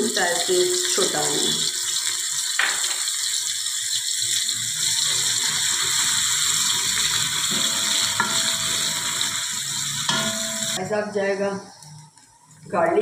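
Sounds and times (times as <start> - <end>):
onion sizzling in hot oil: 0.0 - 10.9.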